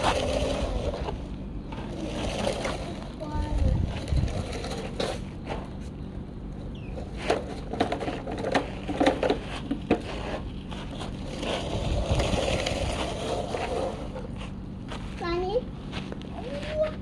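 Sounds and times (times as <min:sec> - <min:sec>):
gritty dirt rush: 0:00.0 - 0:17.0.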